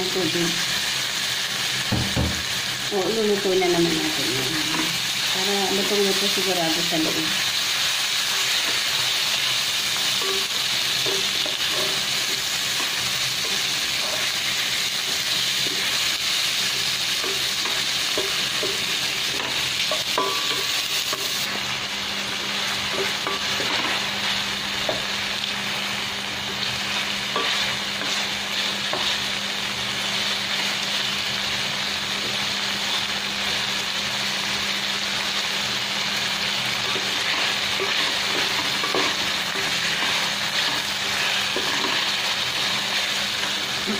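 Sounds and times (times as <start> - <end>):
chicken sizzling in a pot: 0.0 - 43.9.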